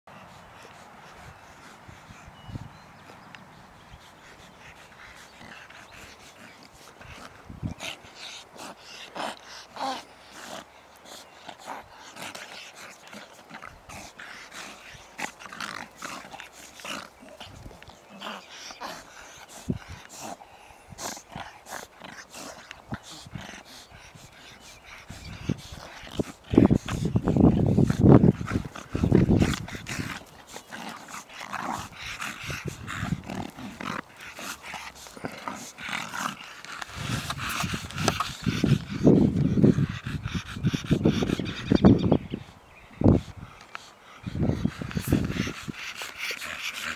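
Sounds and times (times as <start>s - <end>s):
puppies growling and snuffling: 0.1s - 46.9s.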